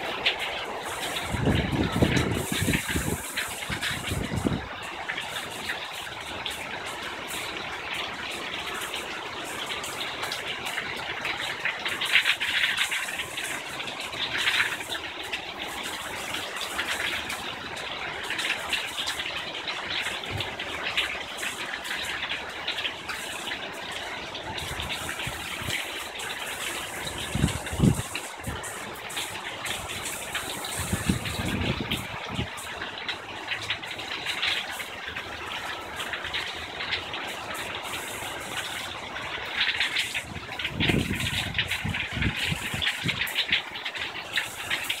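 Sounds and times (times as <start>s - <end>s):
heavy rain pouring: 0.0s - 45.0s
water streaming off balcony: 0.0s - 45.0s.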